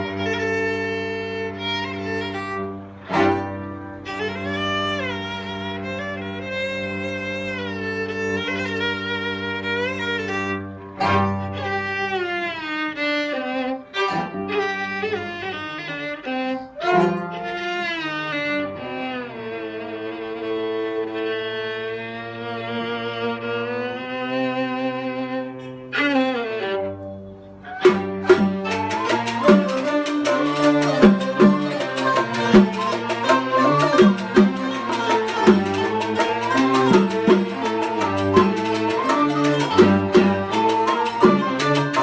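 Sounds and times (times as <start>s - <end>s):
bowed strings playing held notes: 0.0s - 20.0s, 25.4s - 42.0s.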